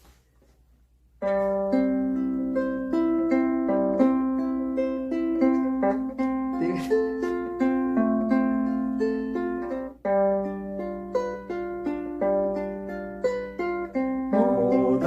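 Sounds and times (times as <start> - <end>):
ukulele playing: 1.2 - 15.0.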